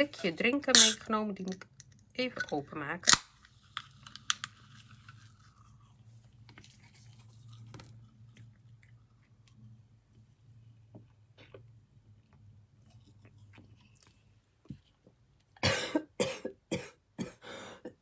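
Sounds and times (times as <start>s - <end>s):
low steady hum: 0.0s - 17.4s.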